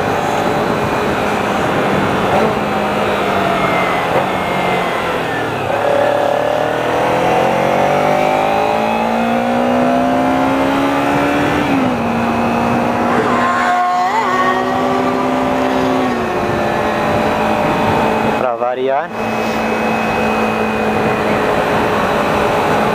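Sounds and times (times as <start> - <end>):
motorcycle engine accelerating: 0.0 - 22.9
wind and road noise: 0.0 - 22.9.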